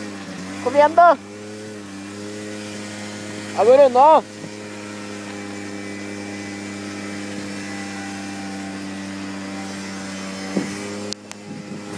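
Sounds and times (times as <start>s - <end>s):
vehicle engine running: 0.0s - 11.9s.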